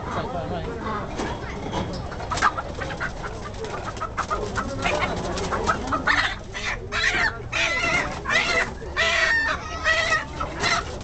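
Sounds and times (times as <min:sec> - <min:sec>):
chickens clucking: 0:00.0 - 0:11.0
caged birds calling: 0:00.8 - 0:11.0.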